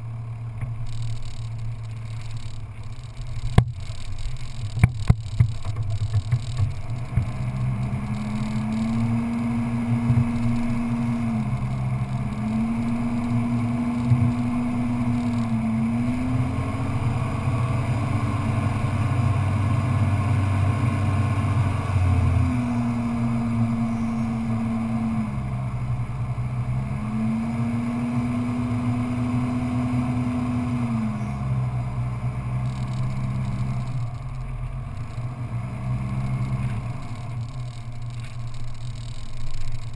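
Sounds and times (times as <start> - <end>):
off-road vehicle engine revving: 0.0 - 39.9
wind and tyres rushing: 0.0 - 39.9.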